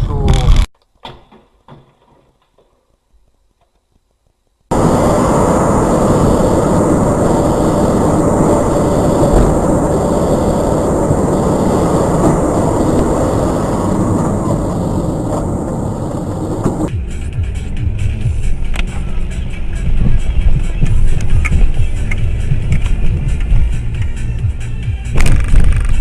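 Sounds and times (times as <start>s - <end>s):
vehicle rumble in motion: 4.7s - 26.0s.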